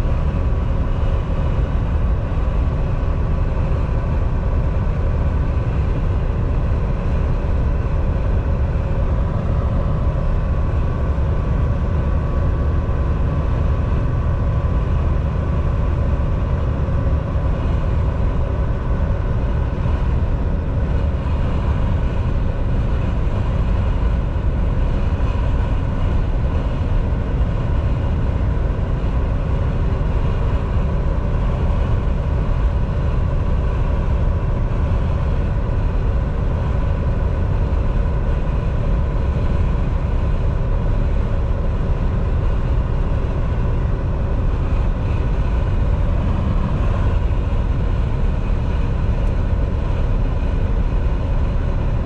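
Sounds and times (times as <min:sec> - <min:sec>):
truck engine drone: 0:00.0 - 0:52.0.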